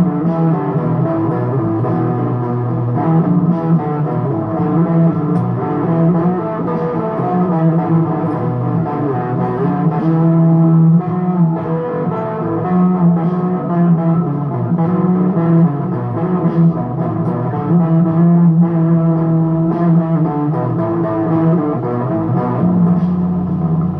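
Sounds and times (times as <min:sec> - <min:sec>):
electric guitar playing blues: 0:00.0 - 0:23.9.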